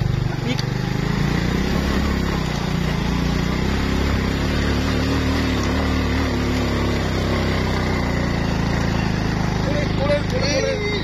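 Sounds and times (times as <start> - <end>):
motorbike engine running: 0.0 - 11.0.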